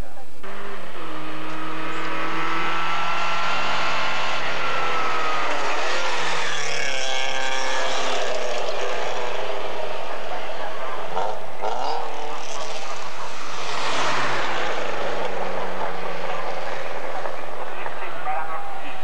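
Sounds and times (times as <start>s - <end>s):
rally car engine revving high: 0.4s - 19.0s.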